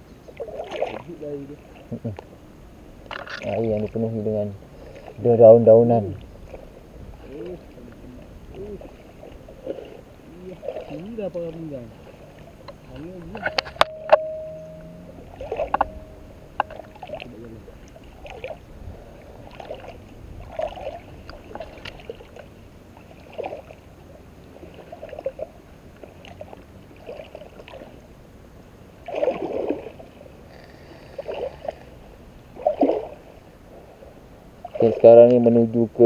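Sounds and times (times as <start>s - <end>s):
wading splashes in marsh water: 0.3s - 5.4s, 6.0s - 28.2s, 28.8s - 30.5s, 31.1s - 35.4s.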